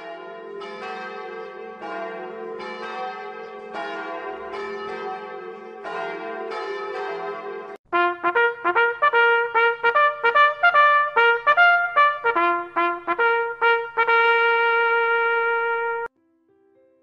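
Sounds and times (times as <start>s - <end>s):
church bells ringing: 0.0s - 16.1s.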